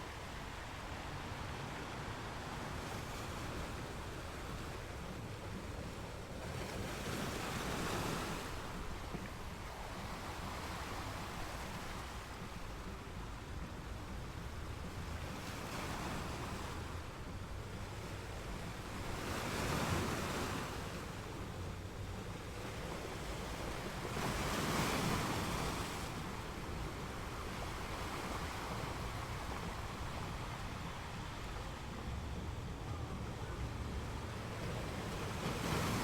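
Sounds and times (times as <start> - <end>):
large waves breaking: 0.0 - 36.0
surf hissing on beach: 0.0 - 36.0.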